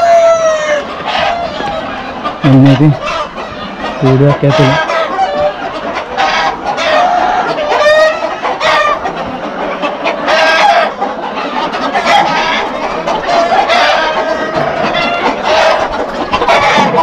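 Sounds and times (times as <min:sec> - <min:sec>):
chickens clucking and calling: 0:00.0 - 0:17.0.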